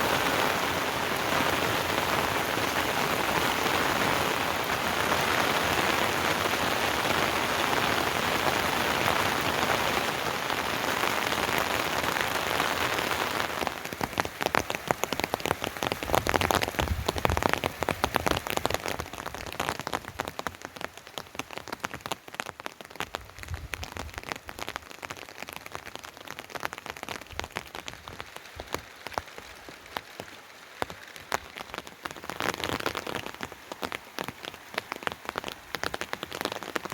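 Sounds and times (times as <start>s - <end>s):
heavy rain hiss: 0.0s - 36.9s.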